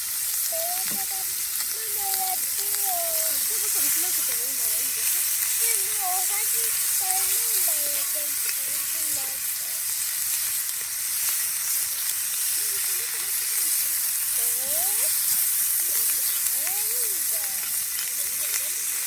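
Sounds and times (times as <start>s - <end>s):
food sizzling in a skillet: 0.0s - 19.0s.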